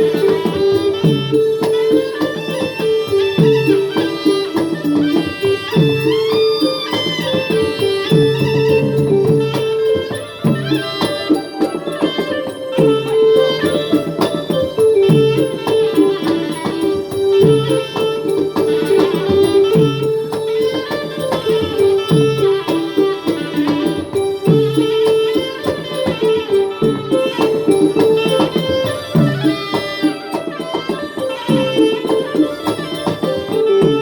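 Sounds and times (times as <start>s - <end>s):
held melody line: 0.0s - 34.0s
light clattering percussion: 0.0s - 34.0s.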